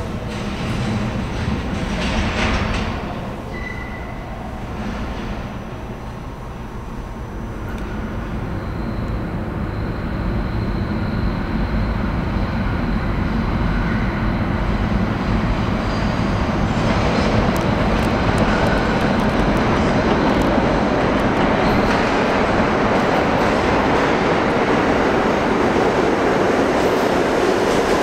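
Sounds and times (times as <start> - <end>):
subway train rumbling in tunnel: 0.0 - 28.0
train wheel and rail noise: 0.0 - 28.0.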